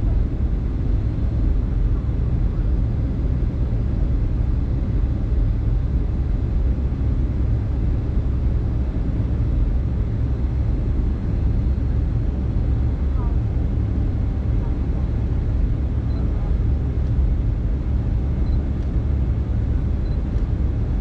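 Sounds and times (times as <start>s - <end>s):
aircraft engine rumble in flight: 0.0s - 21.0s.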